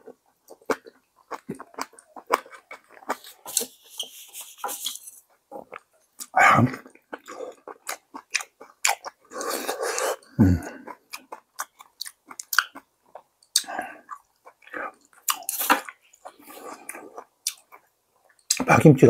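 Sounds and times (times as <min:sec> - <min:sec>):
close chewing and biting: 0:00.0 - 0:18.7.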